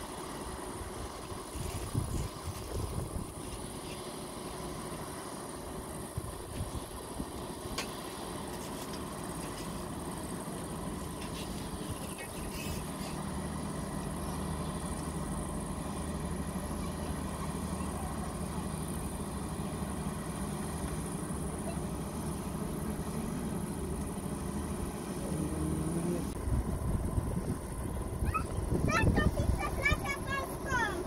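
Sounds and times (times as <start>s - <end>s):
boat diesel engine drone: 0.0s - 31.0s.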